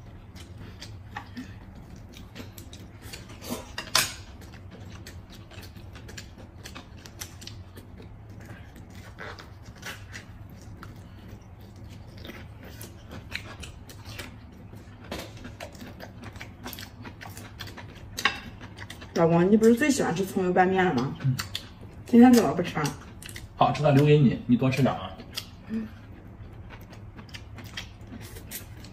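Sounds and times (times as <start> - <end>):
chewing: 0.0 - 28.9
low steady hum: 0.0 - 28.9.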